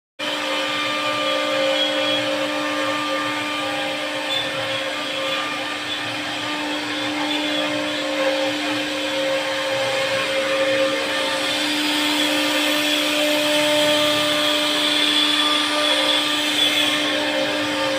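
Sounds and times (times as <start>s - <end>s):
wood router motor whine: 0.2s - 17.9s.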